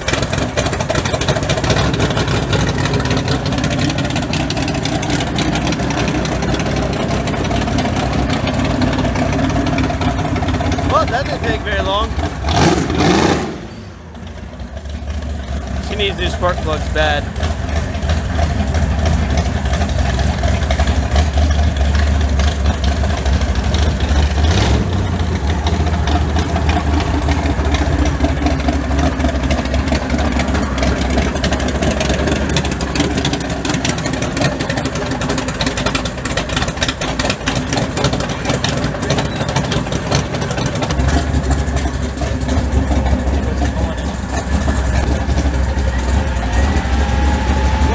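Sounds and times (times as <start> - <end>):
truck engine idling: 0.0 - 47.9.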